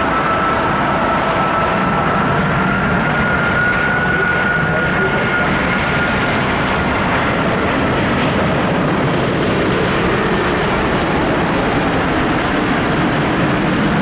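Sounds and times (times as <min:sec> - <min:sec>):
jet airliner passing low: 0:00.0 - 0:14.0.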